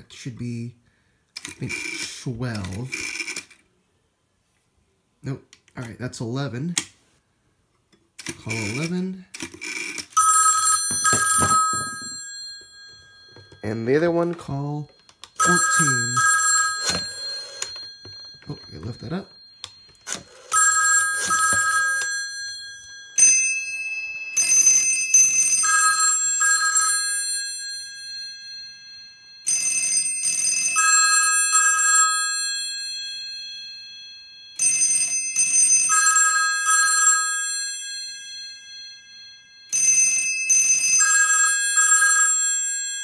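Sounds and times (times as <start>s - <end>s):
telephone bells ringing: 8.5s - 43.0s.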